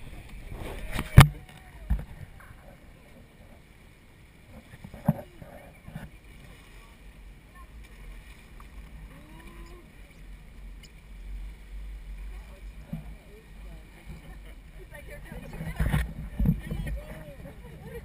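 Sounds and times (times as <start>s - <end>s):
faint water splashing: 0.0s - 18.0s
low rumble of raft on water: 0.0s - 18.0s.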